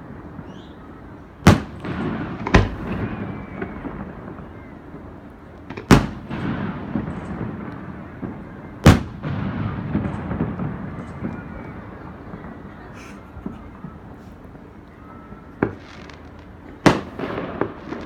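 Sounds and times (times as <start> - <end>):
firework shells booming with echo: 0.0 - 18.0.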